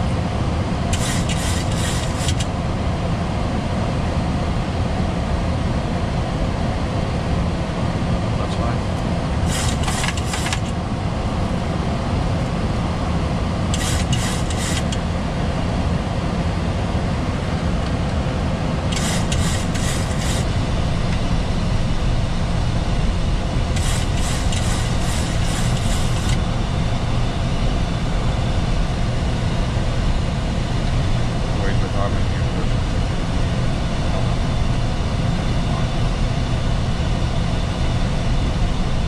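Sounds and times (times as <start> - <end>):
airflow and engine rumble: 0.0 - 39.0.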